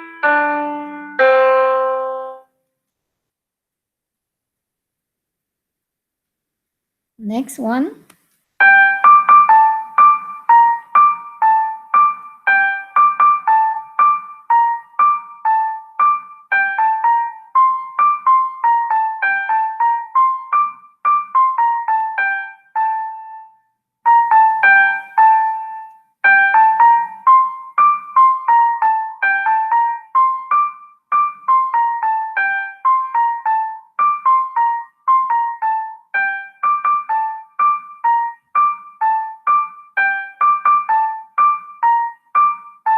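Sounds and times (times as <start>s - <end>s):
electric piano melody: 0.0s - 2.5s, 8.6s - 42.9s.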